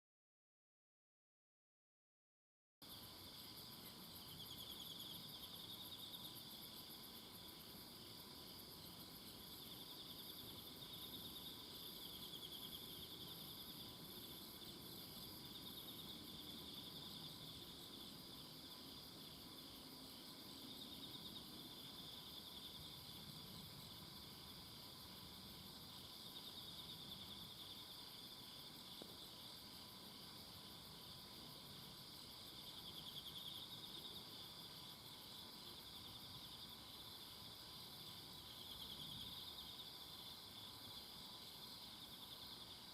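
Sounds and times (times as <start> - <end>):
high pulsing insect buzz: 2.8 - 42.9
insects chirring with pulsing trills: 2.8 - 42.9.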